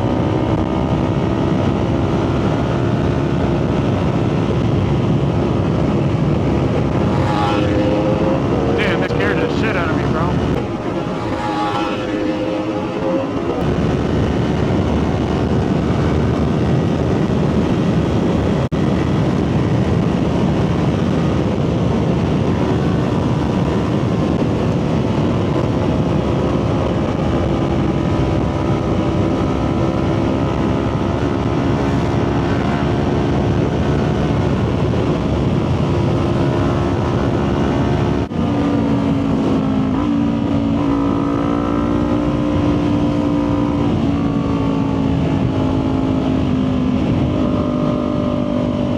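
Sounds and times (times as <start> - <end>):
wind noise: 0.0 - 48.9.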